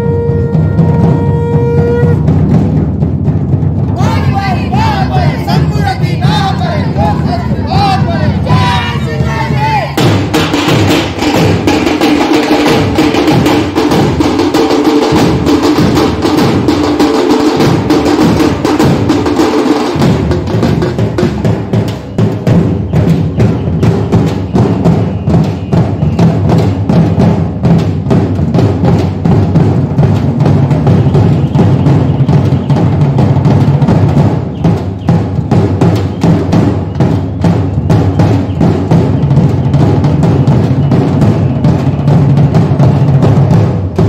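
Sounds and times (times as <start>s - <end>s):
barrel drums beaten with sticks: 0.0s - 44.0s.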